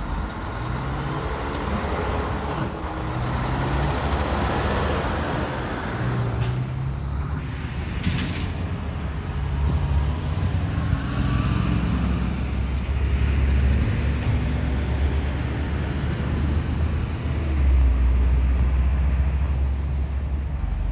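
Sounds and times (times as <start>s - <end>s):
diesel locomotive engine rumble: 0.0s - 20.9s
road traffic passing: 0.0s - 20.9s
truck engine: 0.0s - 20.9s.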